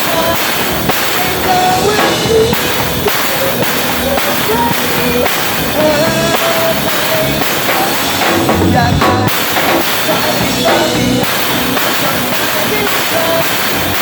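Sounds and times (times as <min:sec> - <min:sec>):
drum kit playing: 0:00.0 - 0:14.0
pop-rock song: 0:00.0 - 0:14.0.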